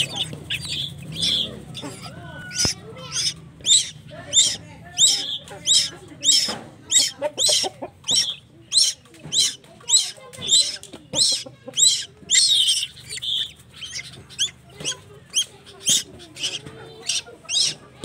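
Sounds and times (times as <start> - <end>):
bird chick shrill begging calls: 0.0 - 17.8.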